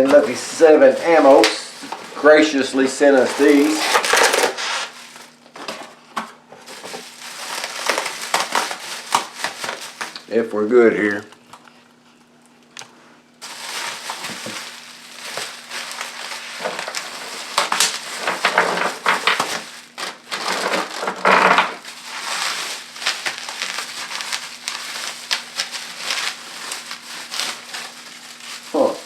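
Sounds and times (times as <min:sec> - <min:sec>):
packing material crinkling: 0:00.0 - 0:06.0, 0:06.6 - 0:10.4, 0:13.4 - 0:29.0.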